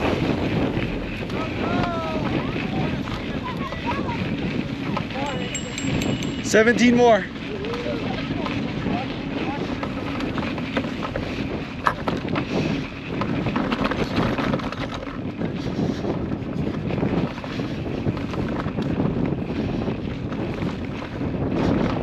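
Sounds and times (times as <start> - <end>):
wind buffeting the microphone: 0.0 - 22.0.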